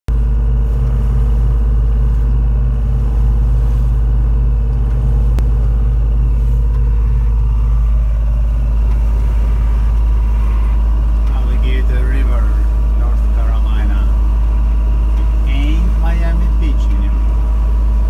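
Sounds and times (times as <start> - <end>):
boat engine droning: 0.1 - 18.0.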